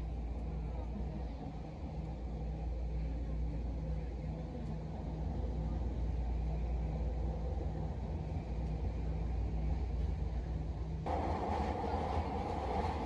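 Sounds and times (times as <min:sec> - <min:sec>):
faint steady hum: 0:00.0 - 0:13.0
train low rumble: 0:00.0 - 0:13.0.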